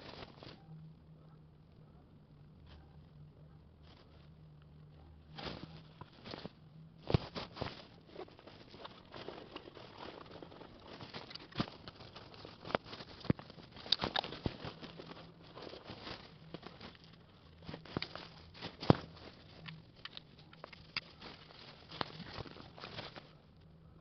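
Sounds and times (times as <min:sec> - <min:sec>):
rustling and crinkling: 0:00.0 - 0:01.3, 0:02.4 - 0:24.0.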